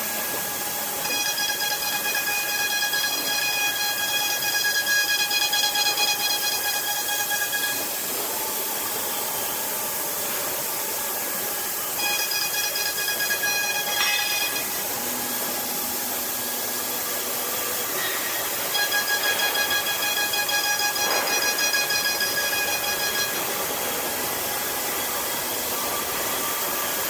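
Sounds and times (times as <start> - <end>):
router spindle whining: 0.1 - 27.0.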